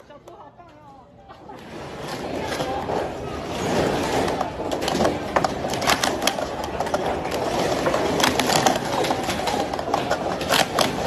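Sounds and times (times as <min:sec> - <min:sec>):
background noise: 0:00.0 - 0:11.0
plastic cups clattering: 0:01.6 - 0:11.0.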